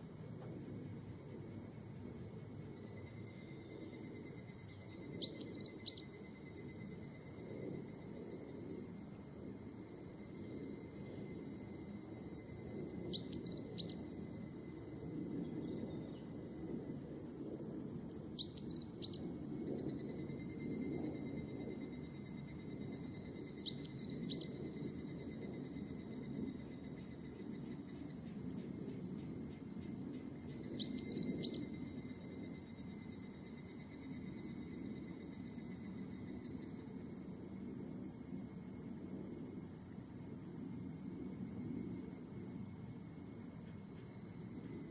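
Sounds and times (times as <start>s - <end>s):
cicadas and insects droning: 0.0s - 44.9s.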